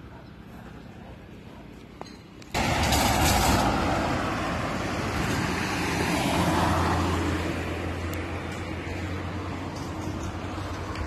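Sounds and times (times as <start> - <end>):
vehicles passing on road: 0.0 - 11.0.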